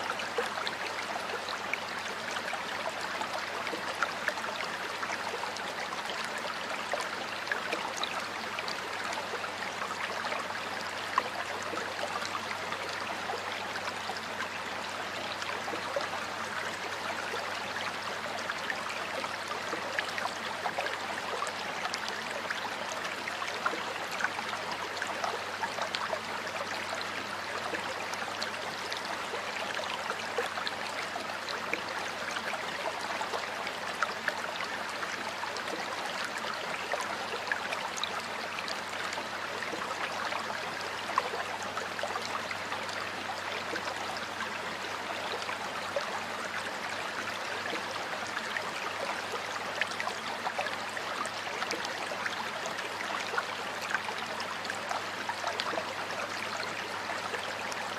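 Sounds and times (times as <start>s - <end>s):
stream babbling: 0.0s - 57.9s.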